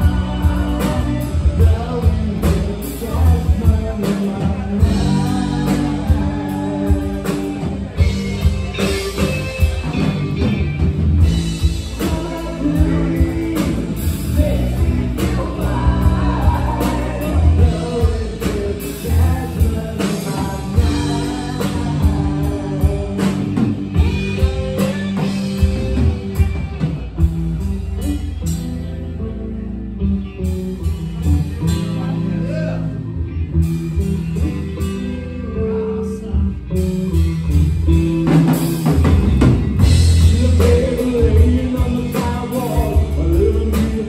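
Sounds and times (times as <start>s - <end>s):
person singing: 0.0s - 10.5s, 11.2s - 26.6s, 30.4s - 44.0s
drum kit beat: 0.0s - 28.9s, 36.8s - 44.0s
electric bass: 0.0s - 44.0s
electric guitar: 0.0s - 44.0s.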